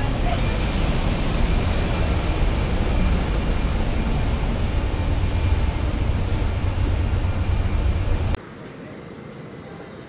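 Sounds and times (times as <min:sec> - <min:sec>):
airliner low rumble: 0:00.0 - 0:08.4.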